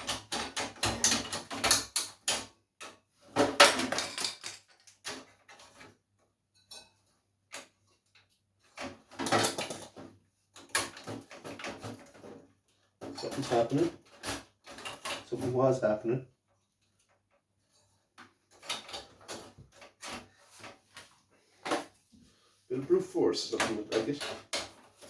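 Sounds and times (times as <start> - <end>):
computer parts rattling and clicking: 0.0 - 6.0, 8.6 - 16.1, 16.8 - 22.0, 22.9 - 25.0.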